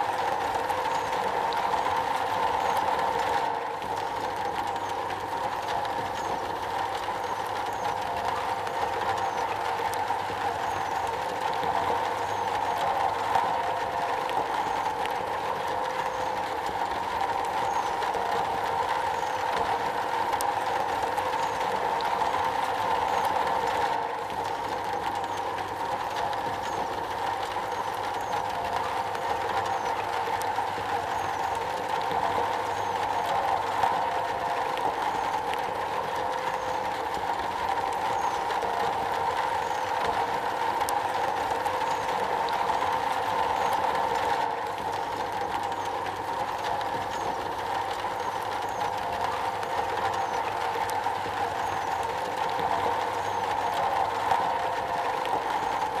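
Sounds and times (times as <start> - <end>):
rain drumming on metal roof: 0.0 - 56.0.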